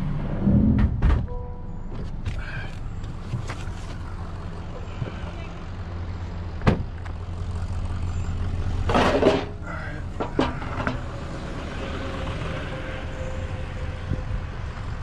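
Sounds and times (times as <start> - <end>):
truck engine idling: 1.6 - 15.0.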